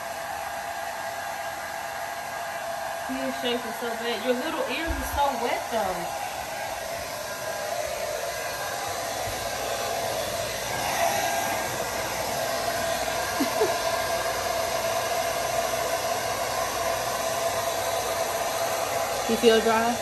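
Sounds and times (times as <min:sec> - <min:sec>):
hair dryer whirring: 0:00.0 - 0:20.0.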